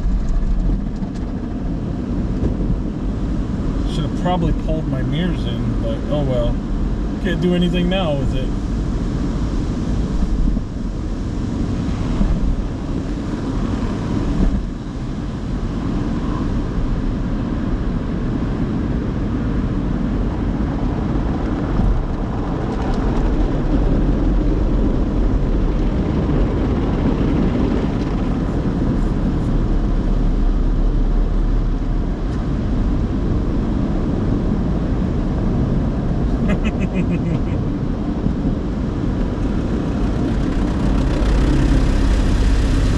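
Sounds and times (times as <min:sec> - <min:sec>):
car wash equipment rumbling: 0:00.0 - 0:42.9.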